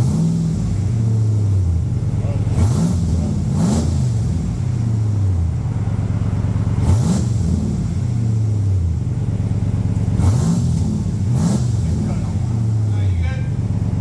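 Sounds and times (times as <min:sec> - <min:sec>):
engine idling and revving: 0:00.0 - 0:14.0.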